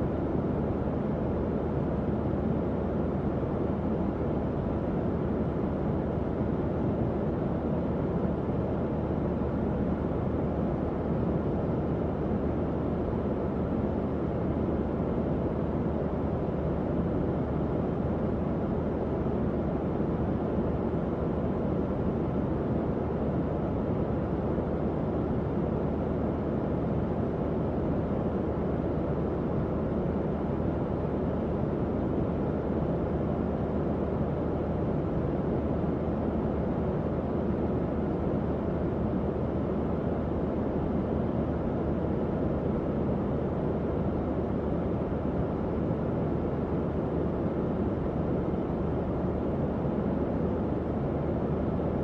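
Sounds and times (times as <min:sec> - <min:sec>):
faint hum: 0:00.0 - 0:52.0.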